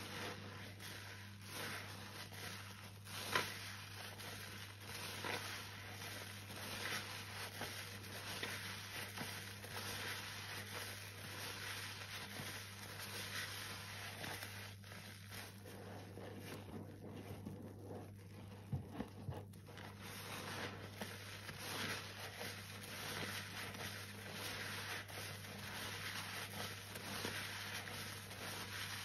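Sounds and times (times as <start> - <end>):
soapy sponge squelching: 0.0 - 29.0.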